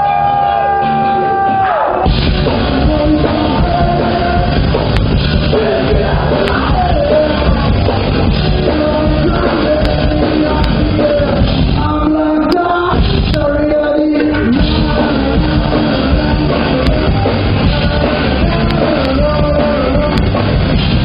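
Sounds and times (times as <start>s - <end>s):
bass guitar: 0.0s - 21.0s
drum kit: 0.0s - 21.0s
electric guitar: 0.0s - 21.0s
man singing and shouting: 0.0s - 21.0s.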